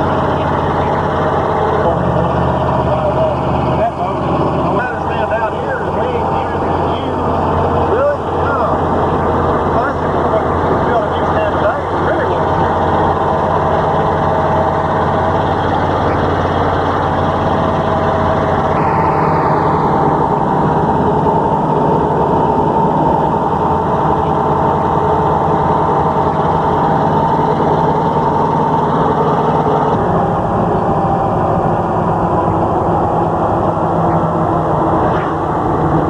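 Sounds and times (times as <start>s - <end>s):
vehicle engine humming: 0.0s - 36.0s.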